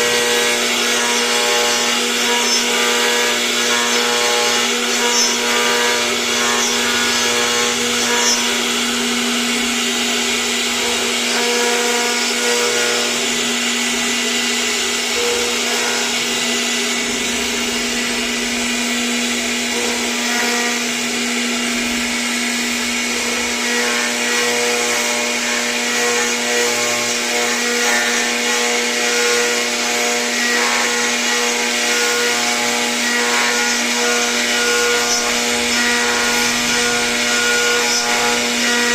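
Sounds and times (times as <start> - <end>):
cnc router spindle whining: 0.0 - 38.9.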